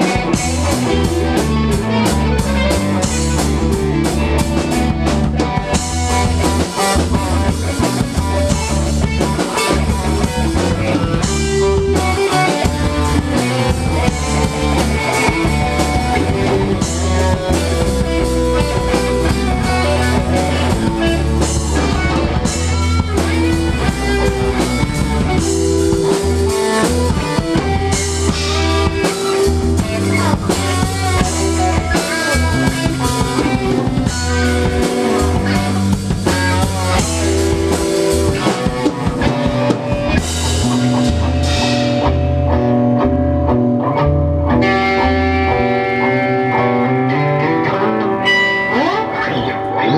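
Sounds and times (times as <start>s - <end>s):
drum kit: 0.0s - 46.8s
heavy low bass line: 0.0s - 47.2s
electric guitar: 0.0s - 49.9s.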